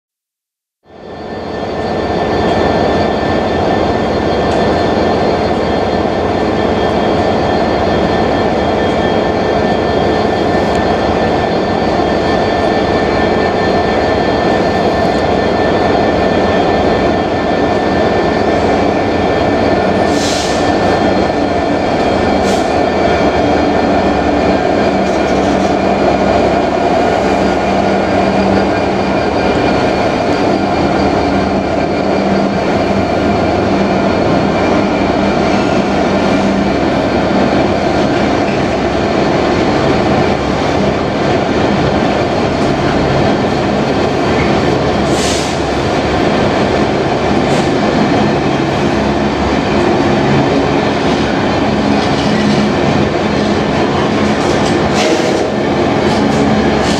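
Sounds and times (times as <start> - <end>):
diesel locomotive engine running: 0.8 - 56.9.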